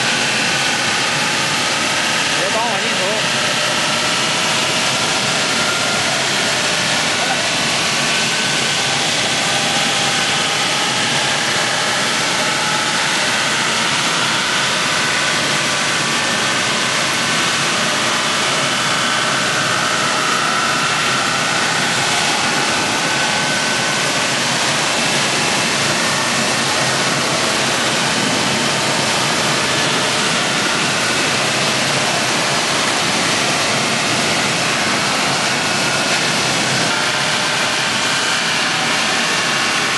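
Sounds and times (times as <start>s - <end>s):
sawdust machine rushing noise: 0.0s - 39.9s.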